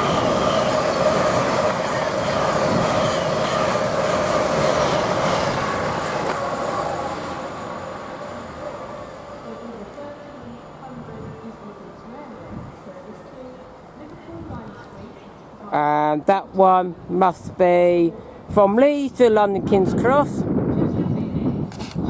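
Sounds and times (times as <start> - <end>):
electric train passing: 0.0 - 18.8.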